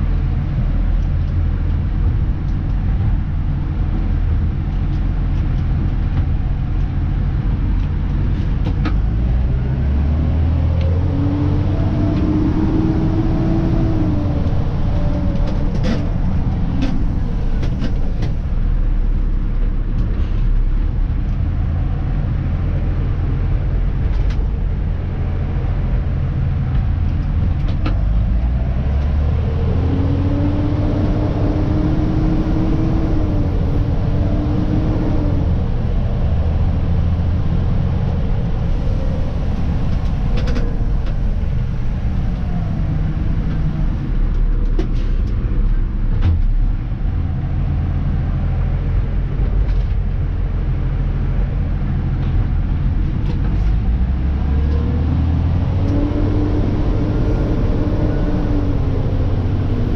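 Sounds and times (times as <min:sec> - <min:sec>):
garbage truck diesel engine: 0:00.0 - 0:59.9.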